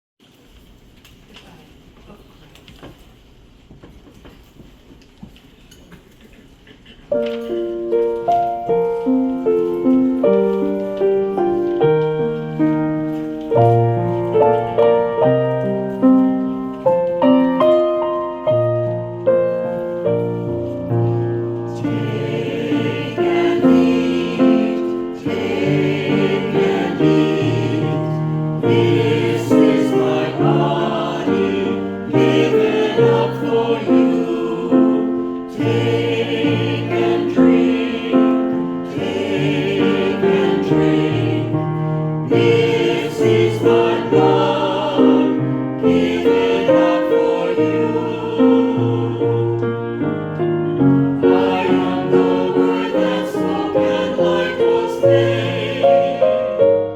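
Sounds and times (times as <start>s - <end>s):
piano accompaniment: 7.1s - 56.9s
choir singing a hymn: 7.2s - 56.9s.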